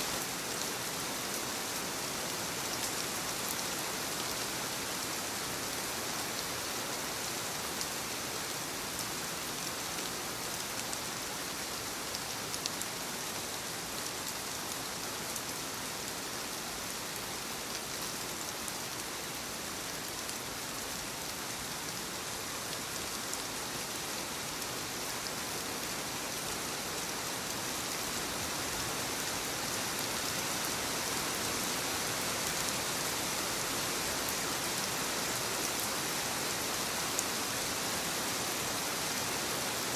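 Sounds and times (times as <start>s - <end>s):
light rain on leaves: 0.0s - 39.9s.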